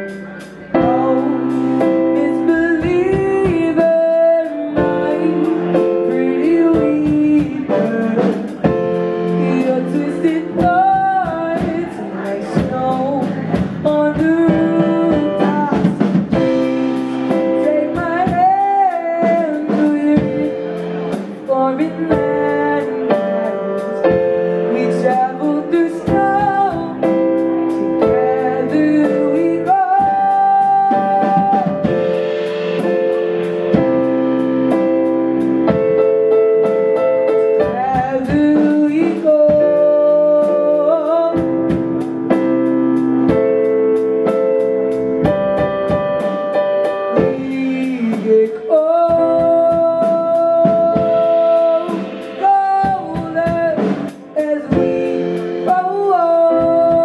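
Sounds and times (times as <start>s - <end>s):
young man singing: 0.0s - 34.2s, 35.7s - 42.0s, 46.8s - 57.0s
drum kit: 0.0s - 57.0s
keyboard: 0.0s - 57.0s.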